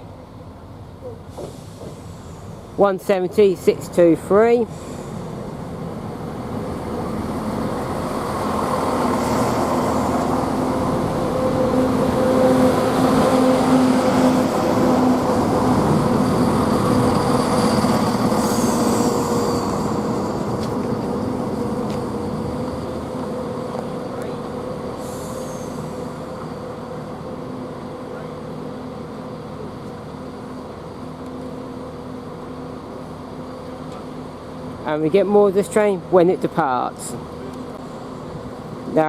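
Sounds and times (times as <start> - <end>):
train diesel engines humming: 0.0 - 39.0
train wheels rolling on rails: 0.8 - 39.0.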